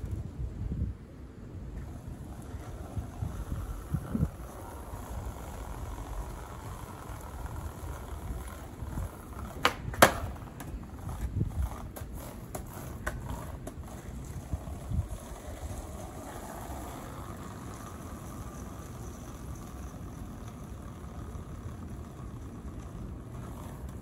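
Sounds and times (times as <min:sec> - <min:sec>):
skateboard wheels rumbling: 0:00.0 - 0:24.0
skateboard clacks: 0:01.7 - 0:24.0.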